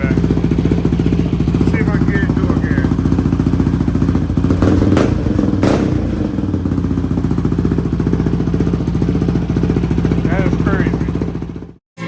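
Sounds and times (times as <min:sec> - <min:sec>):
quad engine idling and revving: 0:00.0 - 0:11.8.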